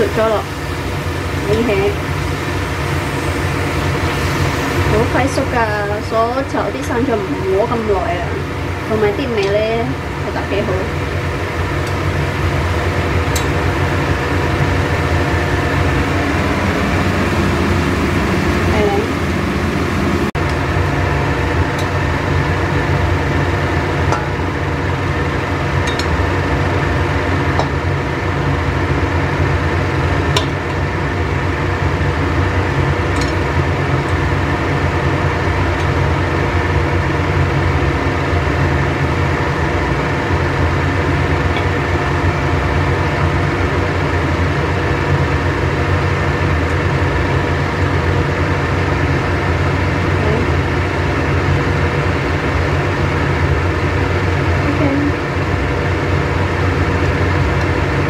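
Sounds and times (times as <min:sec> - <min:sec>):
appliance motor humming: 0:00.0 - 0:53.6.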